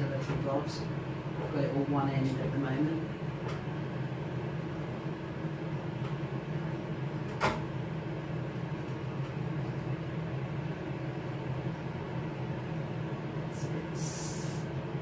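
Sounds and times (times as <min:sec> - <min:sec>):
air fryer oven humming: 0:00.0 - 0:15.0.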